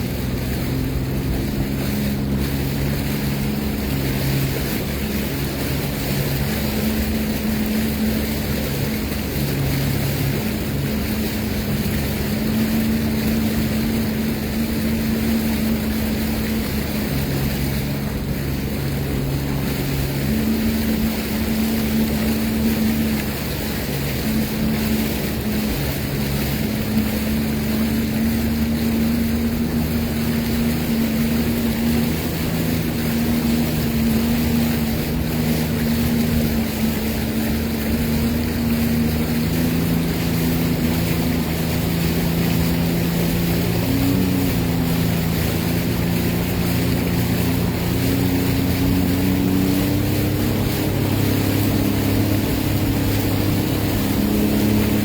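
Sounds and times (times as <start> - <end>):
personal watercraft engine running: 0.0 - 55.0
rushing wind: 0.0 - 55.0
water rushing: 0.0 - 55.0.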